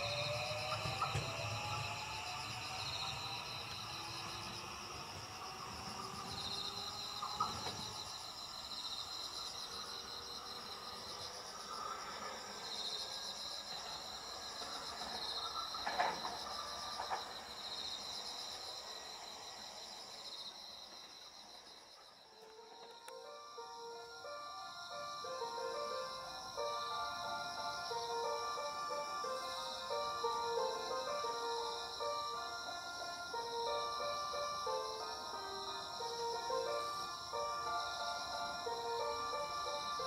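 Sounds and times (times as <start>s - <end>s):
electric train pulling away: 0.0s - 40.0s
insects chirping in trills: 0.0s - 40.0s.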